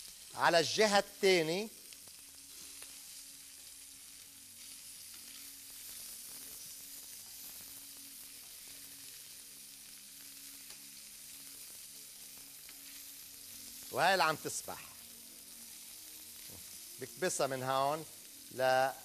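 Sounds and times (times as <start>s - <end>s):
fish sizzling in a frying pan: 0.0s - 19.0s.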